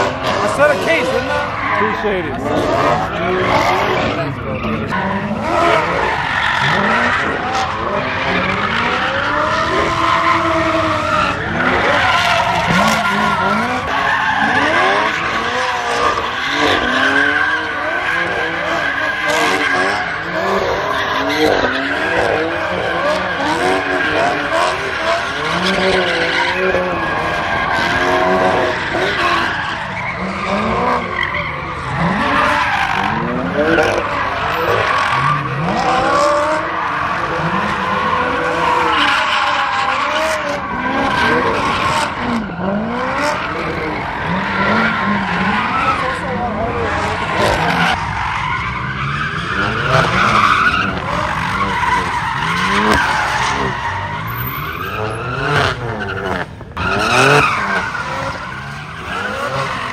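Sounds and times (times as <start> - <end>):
car engines revving: 0.0 - 59.9
tyres squealing: 0.2 - 59.9.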